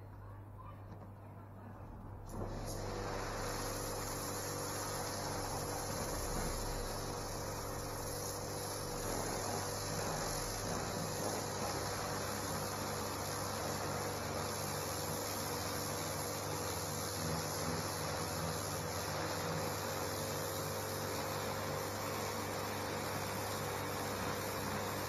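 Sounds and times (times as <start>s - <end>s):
pressure washer motor humming: 2.2s - 25.0s
water jet hissing on paving: 2.4s - 25.0s.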